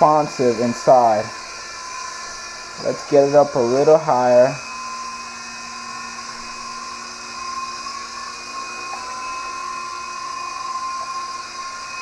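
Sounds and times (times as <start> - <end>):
rotor blades whirring: 0.0 - 12.0
toy helicopter motor whine: 0.0 - 12.0.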